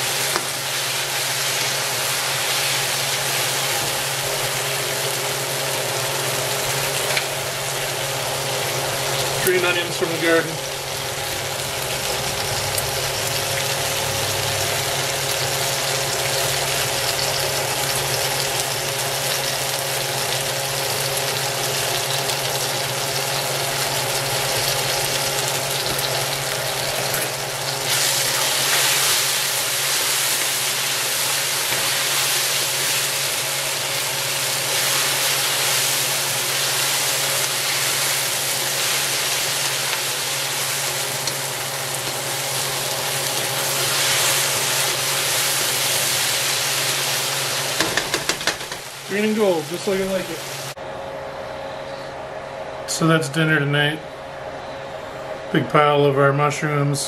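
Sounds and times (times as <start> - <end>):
vegetables sizzling in a wok: 0.0 - 50.8.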